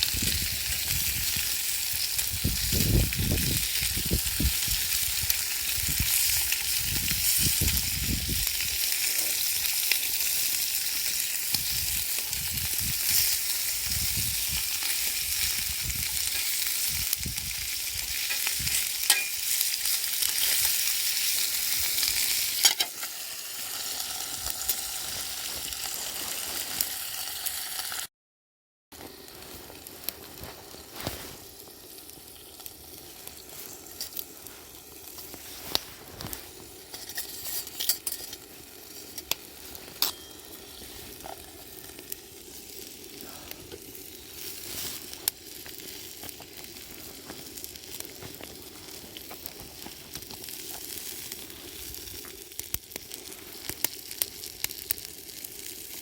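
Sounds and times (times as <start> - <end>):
food sizzling in a pan: 0.0 - 28.1, 29.0 - 56.0
wood fire crackles: 0.0 - 28.1, 29.0 - 56.0.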